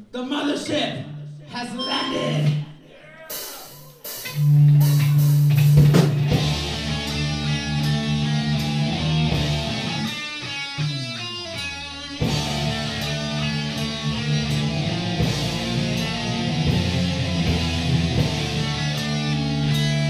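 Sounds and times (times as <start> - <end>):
heavy metal band playing: 3.3 - 20.0.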